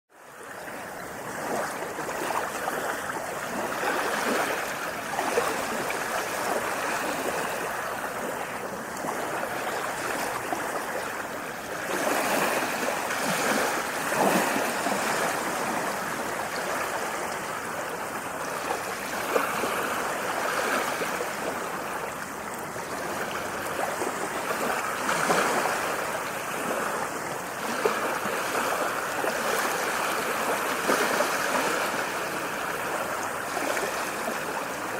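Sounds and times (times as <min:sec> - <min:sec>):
ocean waves washing in: 0:00.2 - 0:34.9.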